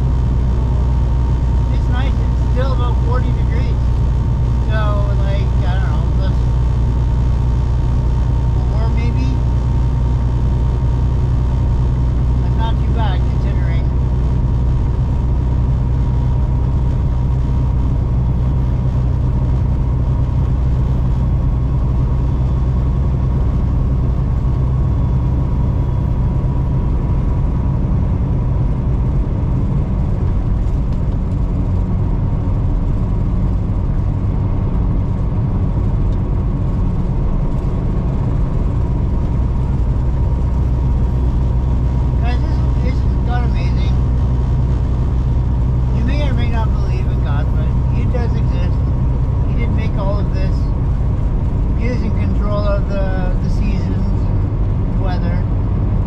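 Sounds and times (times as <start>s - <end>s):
faint steady whine: 0.0s - 56.0s
road noise: 0.0s - 56.0s
truck diesel engine drone: 0.0s - 56.0s.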